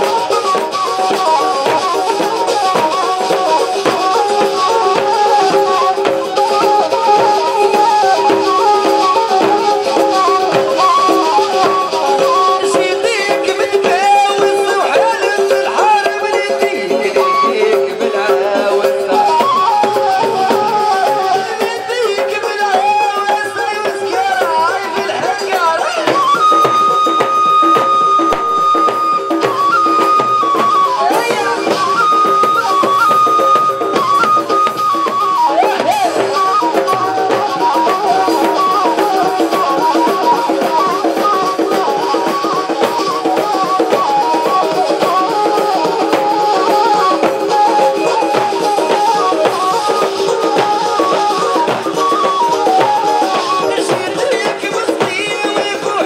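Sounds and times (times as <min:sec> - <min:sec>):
drums beating steady rhythm: 0:00.0 - 0:56.0
folk melody: 0:00.0 - 0:56.0.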